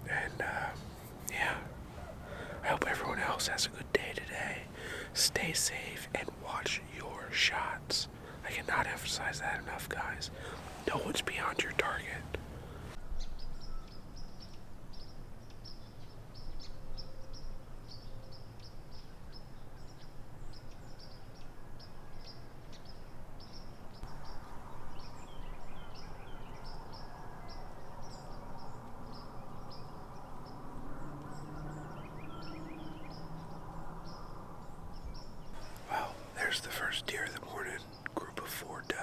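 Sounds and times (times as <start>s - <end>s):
low outdoor background hiss: 0.0s - 39.0s
lower bird calls: 0.0s - 39.0s.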